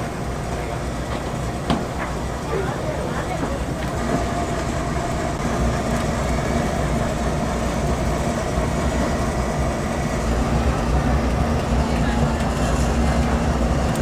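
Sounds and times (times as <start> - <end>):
machinery rumbling with low hum: 0.0 - 14.0.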